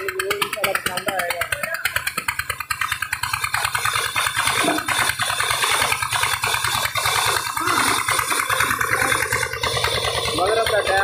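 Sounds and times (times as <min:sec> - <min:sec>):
band saw rattling: 0:00.0 - 0:11.0
engine beat: 0:00.0 - 0:11.0.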